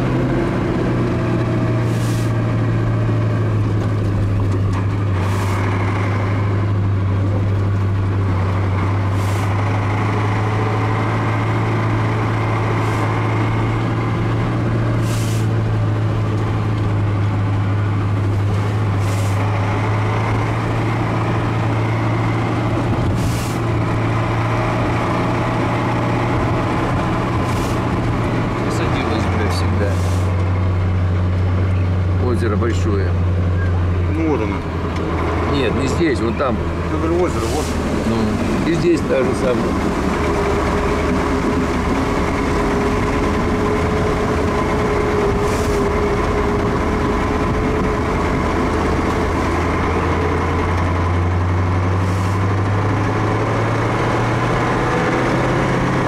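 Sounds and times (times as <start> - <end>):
truck engine hum: 0.0 - 56.0.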